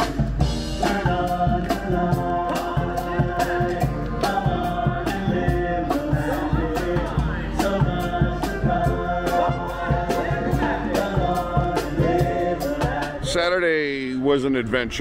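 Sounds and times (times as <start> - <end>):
group of voices singing: 0.0 - 13.5
steady drum beat: 0.0 - 13.5.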